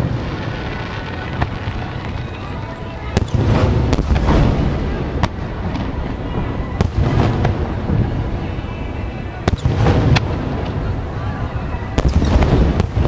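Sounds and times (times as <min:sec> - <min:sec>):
deep rumble of booms: 0:00.0 - 0:13.0
fireworks cracking: 0:00.0 - 0:13.0.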